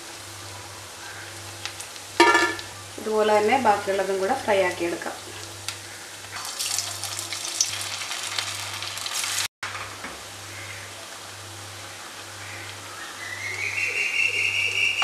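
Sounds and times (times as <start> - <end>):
batter deep-frying in hot oil: 0.0 - 13.8.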